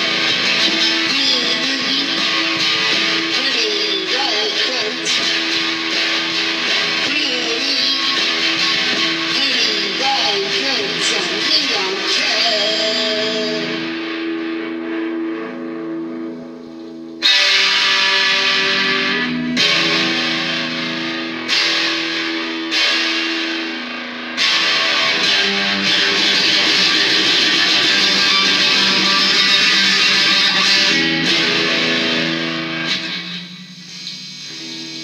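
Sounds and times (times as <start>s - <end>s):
distorted electric guitar chords: 0.0s - 35.0s.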